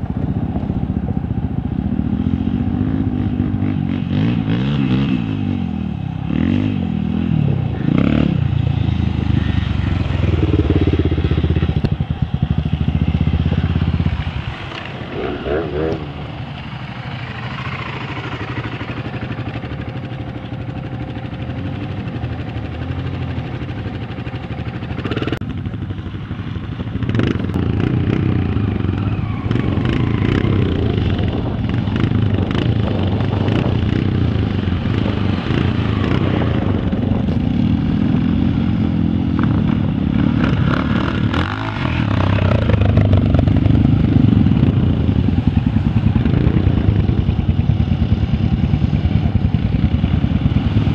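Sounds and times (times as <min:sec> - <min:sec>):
off-road bike engines revving: 0:00.0 - 0:50.9.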